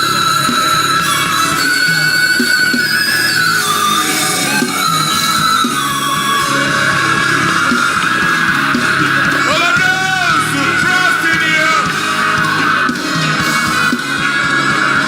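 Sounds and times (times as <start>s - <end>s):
guitar: 0.0s - 15.0s
keyboard chords: 0.0s - 15.0s
people shouting and singing: 0.0s - 15.0s.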